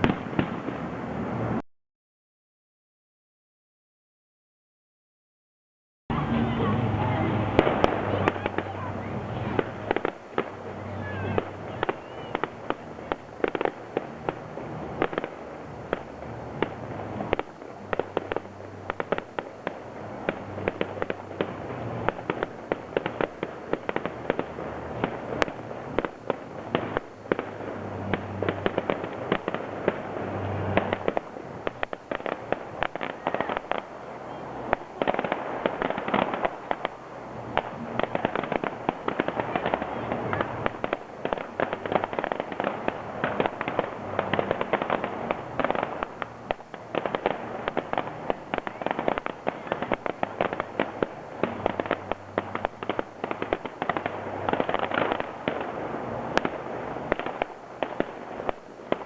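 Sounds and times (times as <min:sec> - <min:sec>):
fireworks popping and cracking: 0:00.0 - 0:01.6, 0:06.2 - 0:59.0.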